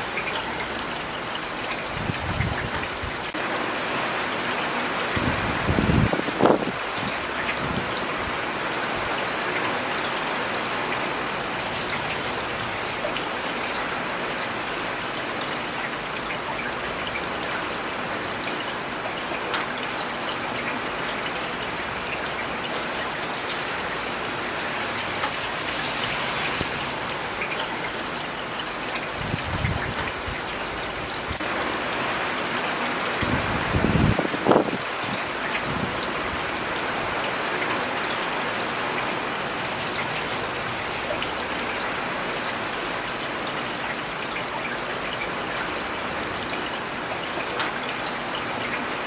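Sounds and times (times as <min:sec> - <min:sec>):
rain pattering on surfaces: 0:00.0 - 0:49.0.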